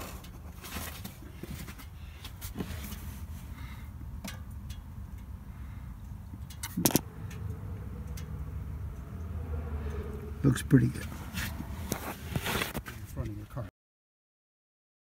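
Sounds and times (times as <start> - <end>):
low steady rumble: 0.2 - 12.5.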